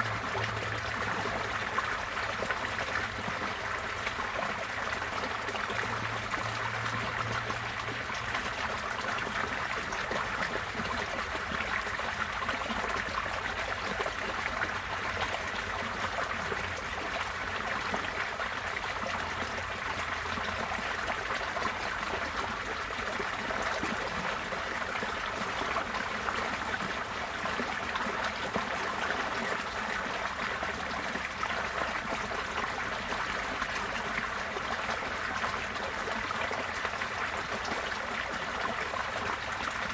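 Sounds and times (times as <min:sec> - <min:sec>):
water flowing: 0:00.0 - 0:39.9.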